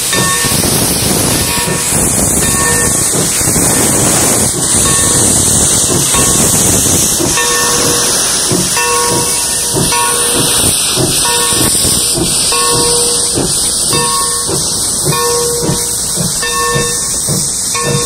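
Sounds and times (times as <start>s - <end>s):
steam hissing from locomotive: 0.0s - 18.0s
train rolling rhythmic beat: 0.0s - 18.0s.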